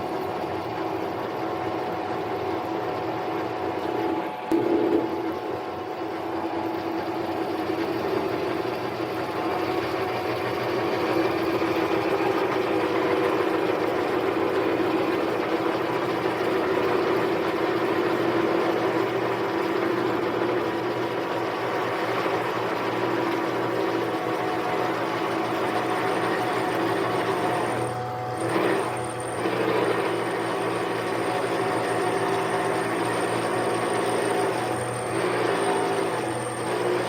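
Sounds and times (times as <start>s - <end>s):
lathe cutting metal: 4.1s - 37.0s.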